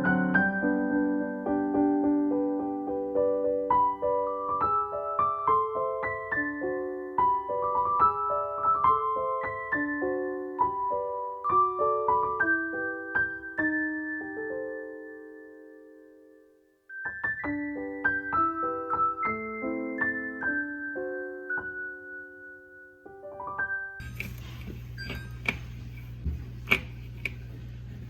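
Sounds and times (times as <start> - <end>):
soft piano melody: 0.0 - 25.5.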